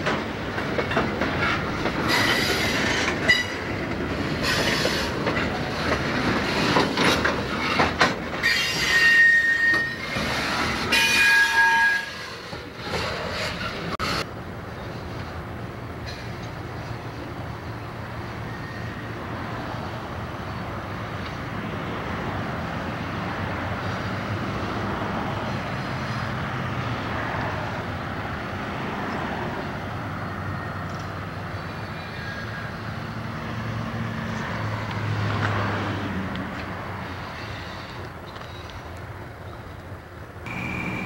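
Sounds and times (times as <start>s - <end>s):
diesel locomotive drone: 0.0s - 41.0s
train cars rumbling on rails: 0.0s - 41.0s.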